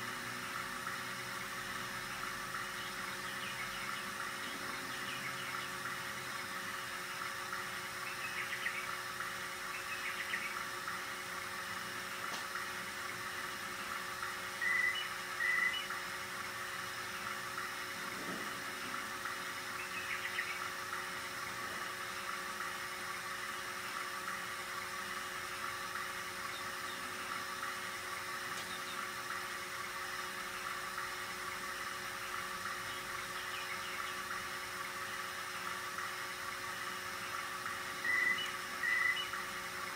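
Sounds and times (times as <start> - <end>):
cassette deck motor whir: 0.0 - 39.9
faint hum tones: 0.0 - 39.9.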